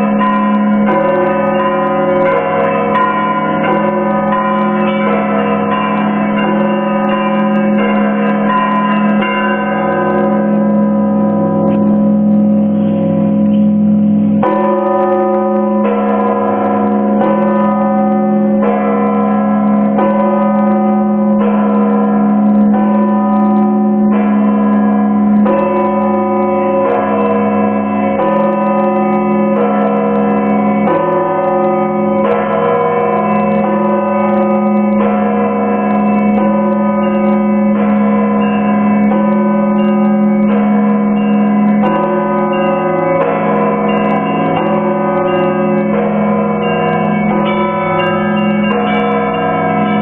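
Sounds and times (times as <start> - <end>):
church bells ringing: 0.0 - 50.0
low bell hum: 0.0 - 50.0.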